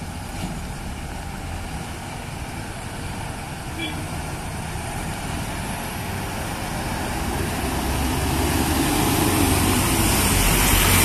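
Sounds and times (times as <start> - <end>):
lorry diesel engine passing: 0.0 - 11.0.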